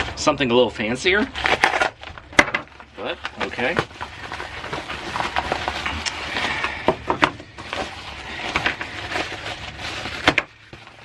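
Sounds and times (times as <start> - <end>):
cardboard box rustling: 1.2 - 11.0.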